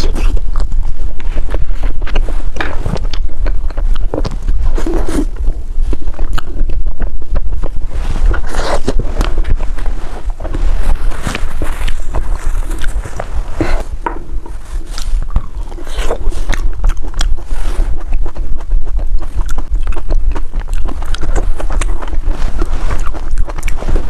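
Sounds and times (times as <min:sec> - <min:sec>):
chewing crispy food: 0:00.0 - 0:24.0
steady low hum: 0:00.0 - 0:24.0.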